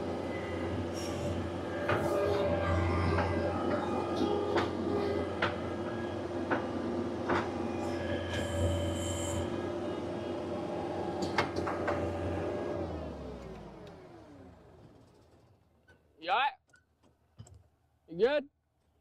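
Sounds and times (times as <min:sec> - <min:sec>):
skid steer engine running: 0:00.0 - 0:15.4.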